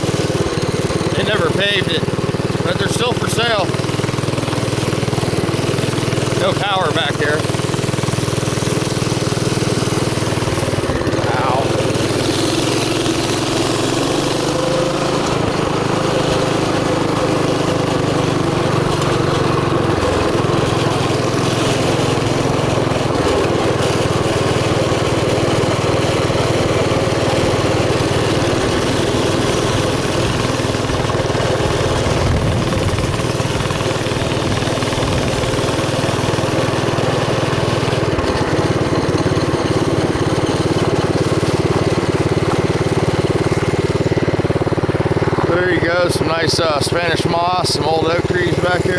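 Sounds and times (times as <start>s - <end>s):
small bike engine running: 0.0s - 48.9s.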